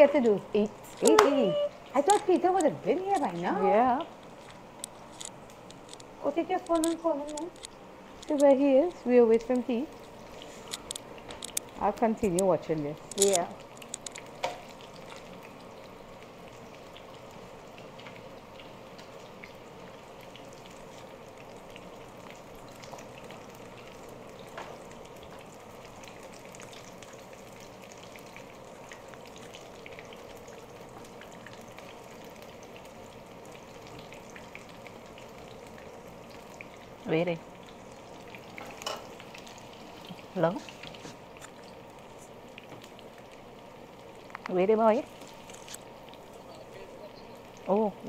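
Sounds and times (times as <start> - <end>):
eggplant sizzling in hot oil: 0.0 - 48.0.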